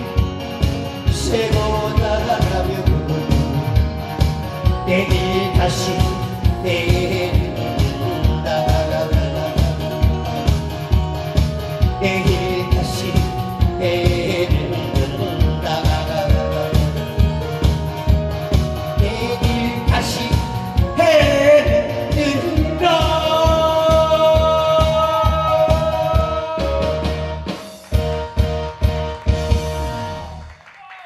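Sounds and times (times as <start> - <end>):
man singing into a microphone: 0.0 - 27.4
amplified backing music with beat: 0.0 - 30.6.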